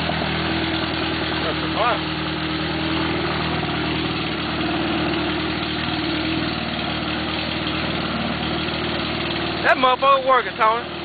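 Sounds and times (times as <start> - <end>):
quad engine running under load: 0.0 - 11.0.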